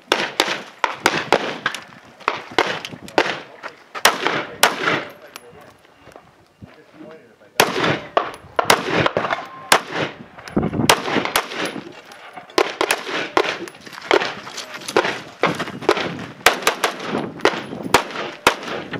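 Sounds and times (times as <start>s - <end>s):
rifle shots with echo: 0.1s - 5.2s, 7.6s - 10.2s, 10.8s - 18.9s.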